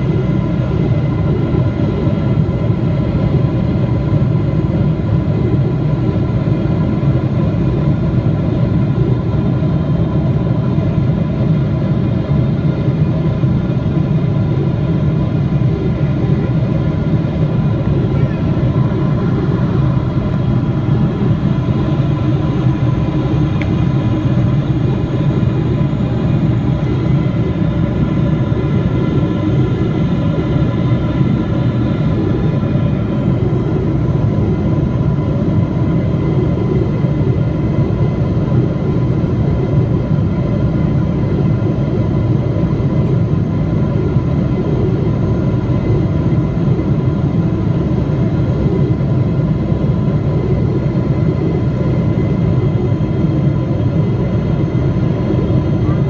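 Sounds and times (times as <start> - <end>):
airplane cabin rumble: 0.0 - 56.0
thin steady whine: 0.0 - 56.0.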